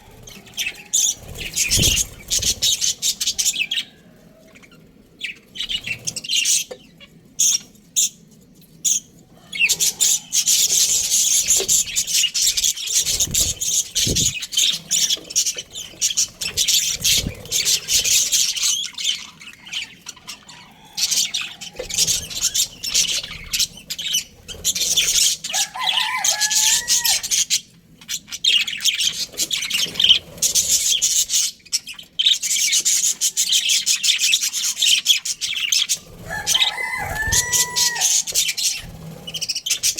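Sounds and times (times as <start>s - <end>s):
budgerigars chirping: 0.0s - 4.0s, 8.9s - 39.9s.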